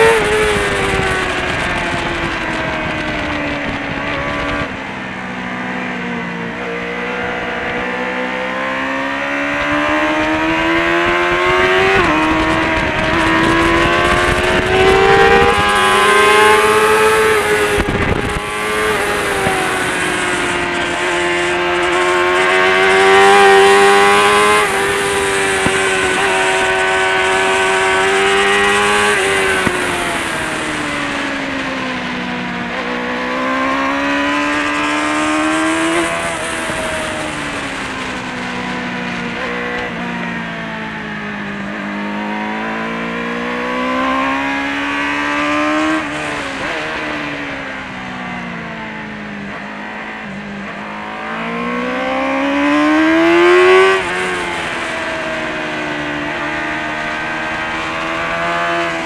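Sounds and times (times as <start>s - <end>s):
motorcycle engine revving high: 0.0s - 59.0s.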